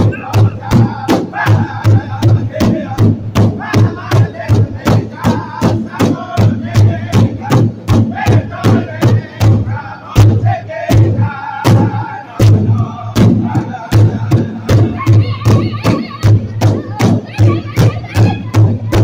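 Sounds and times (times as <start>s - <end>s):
large hide drum beating: 0.0s - 19.0s
men singing together: 0.0s - 19.0s.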